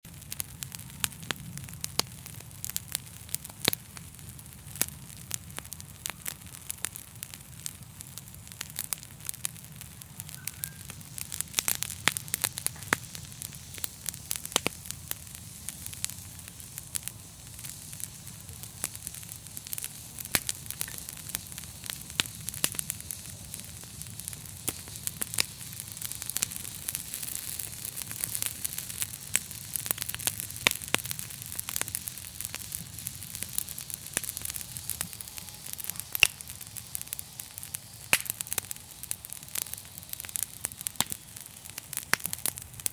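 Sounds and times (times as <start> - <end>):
low rumble of flames: 0.0 - 42.9
wood crackling and popping: 0.0 - 42.9
fire hissing: 0.1 - 42.9.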